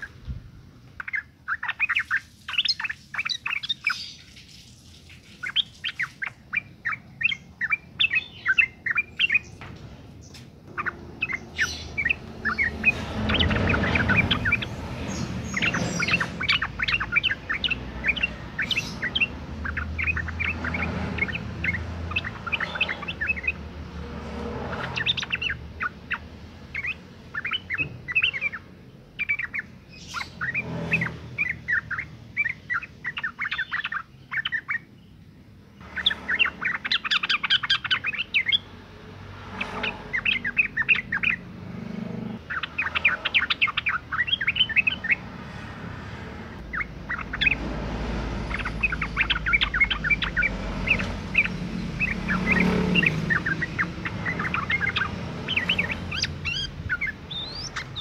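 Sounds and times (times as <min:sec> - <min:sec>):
bird chattering chirps: 0:00.0 - 0:38.8, 0:39.4 - 0:45.7, 0:46.5 - 0:58.0.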